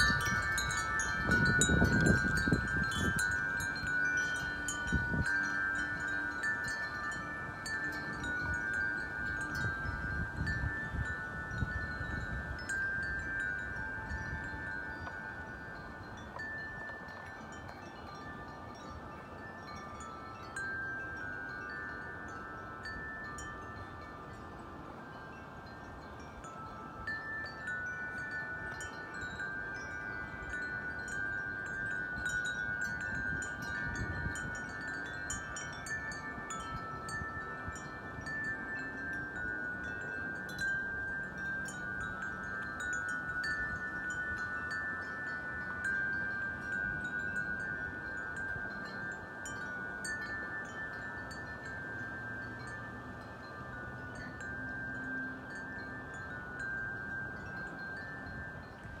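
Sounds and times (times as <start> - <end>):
wind chimes ringing: 0.0 - 59.0.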